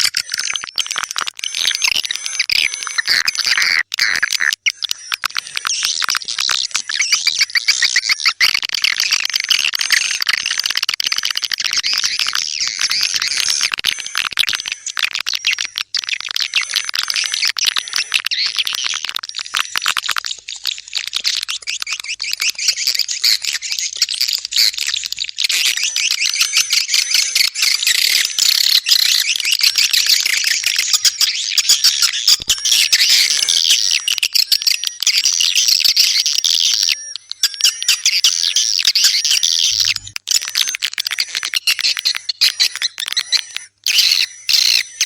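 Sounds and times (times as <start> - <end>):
swiftlets twittering and clicking: 0.0 - 45.0.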